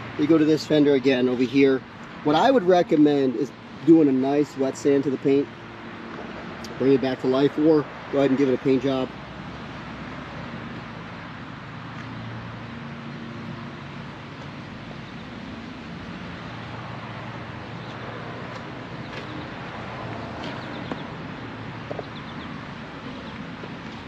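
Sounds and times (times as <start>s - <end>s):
outdoor traffic noise: 0.0s - 24.0s
vehicle engine humming: 0.0s - 24.0s.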